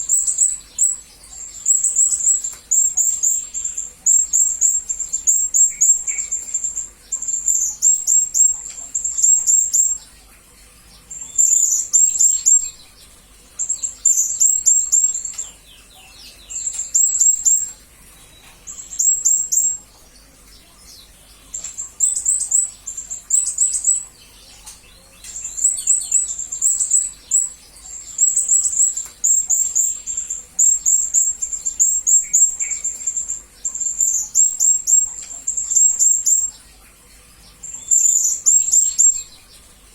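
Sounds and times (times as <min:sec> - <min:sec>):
parrot high-pitched chirps: 0:00.0 - 0:10.0, 0:11.1 - 0:12.8, 0:13.6 - 0:17.8, 0:18.7 - 0:19.9, 0:21.5 - 0:24.7, 0:25.3 - 0:36.6, 0:37.6 - 0:39.3.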